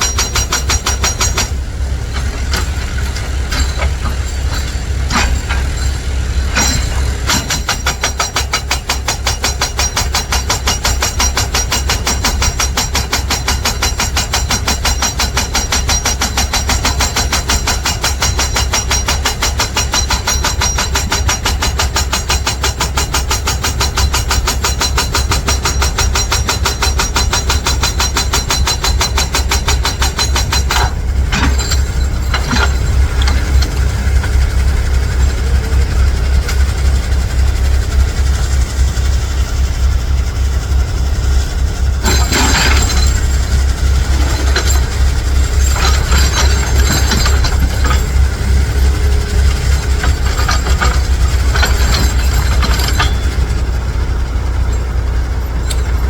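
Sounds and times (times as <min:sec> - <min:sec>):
diesel engine rumbling: 0:00.0 - 0:22.2, 0:22.8 - 0:56.0.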